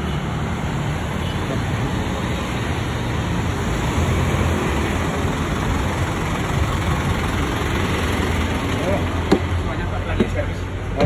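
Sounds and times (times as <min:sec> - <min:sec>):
bus diesel engine rumbling: 0:00.0 - 0:11.0
street traffic: 0:00.0 - 0:11.0.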